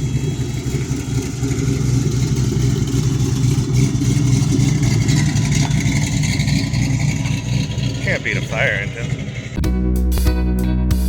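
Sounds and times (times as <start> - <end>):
fire engine engine running: 0.0 - 9.6.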